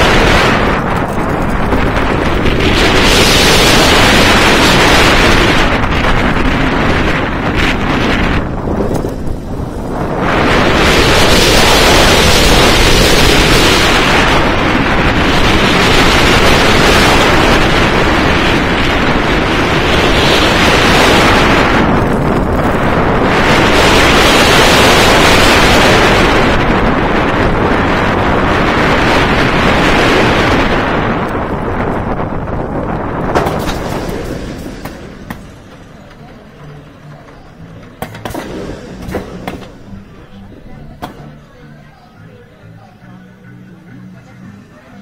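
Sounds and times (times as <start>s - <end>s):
wind rushing over microphone: 0.0s - 43.7s
roller coaster rumbling on track: 0.0s - 45.0s.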